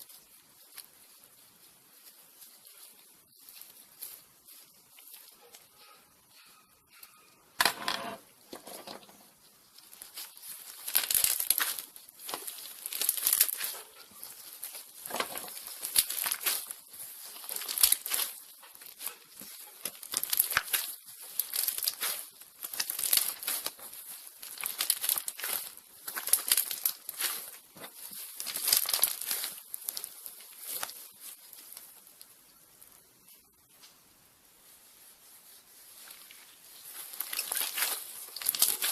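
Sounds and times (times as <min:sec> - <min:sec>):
slime crackling and crinkling: 0:00.0 - 0:05.7, 0:08.0 - 0:38.9.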